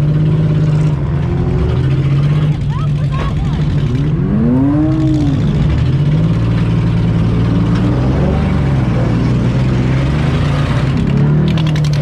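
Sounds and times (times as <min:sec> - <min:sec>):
rough car engine drone: 0:00.0 - 0:12.0.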